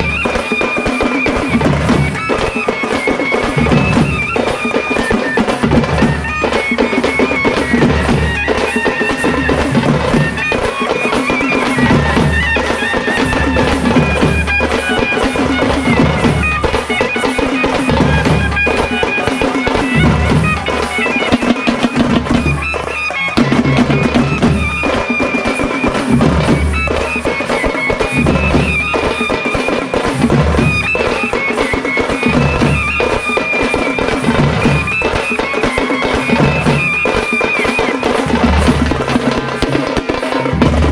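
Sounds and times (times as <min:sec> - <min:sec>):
drums: 0:00.0 - 0:40.9
reedy wind instrument melody: 0:00.0 - 0:40.9.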